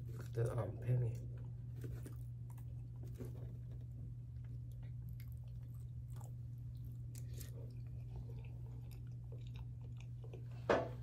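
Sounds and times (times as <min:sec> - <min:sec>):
person chewing pasta: 0:00.0 - 0:11.0
steady low hum: 0:00.0 - 0:11.0.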